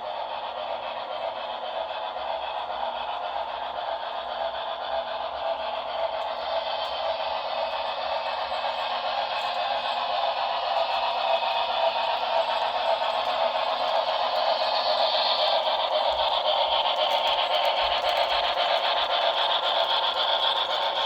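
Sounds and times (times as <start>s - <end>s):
model train wheels clattering on rail: 0.0s - 21.0s.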